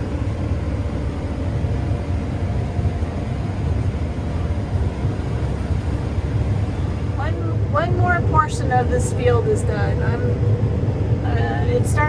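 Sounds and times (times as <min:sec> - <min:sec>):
combine harvester engine rumble: 0:00.0 - 0:12.0.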